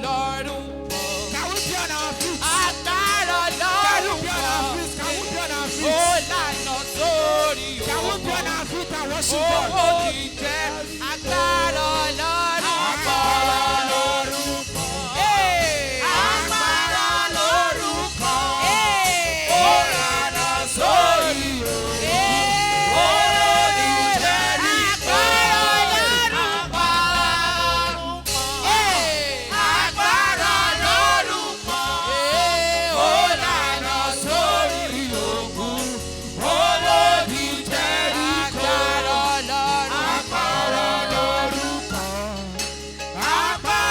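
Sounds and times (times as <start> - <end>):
bass line: 0.0 - 43.9
gospel singing with band: 0.0 - 43.9.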